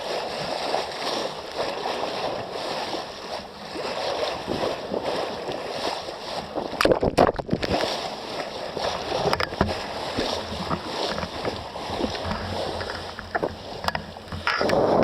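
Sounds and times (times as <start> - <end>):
water sloshing against boat hull: 0.0 - 15.0.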